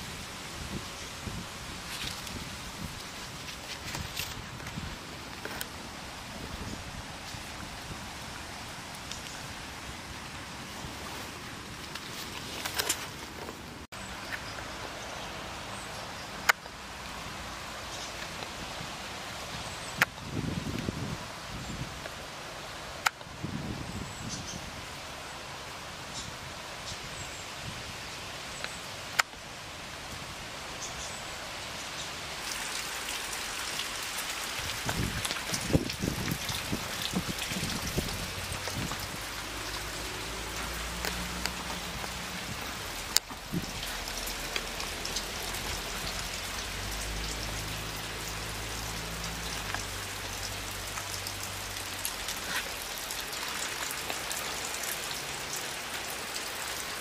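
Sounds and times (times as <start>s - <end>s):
rain tapping on surfaces: 0.0s - 29.4s, 30.0s - 57.0s.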